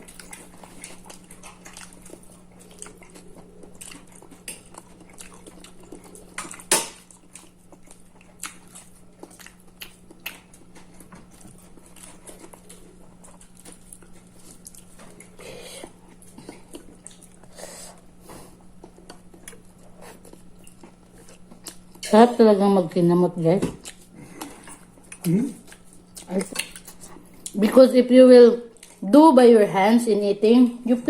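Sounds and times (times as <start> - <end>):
chewing: 0.0 - 22.2, 23.7 - 27.6, 28.7 - 29.0
steady low hum: 0.0 - 31.0.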